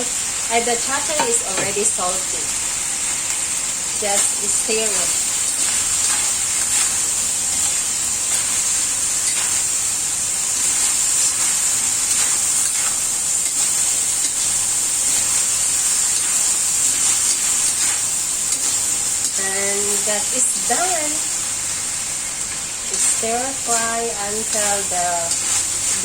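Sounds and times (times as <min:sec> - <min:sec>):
food sizzling in a hot pan: 0:00.0 - 0:26.0.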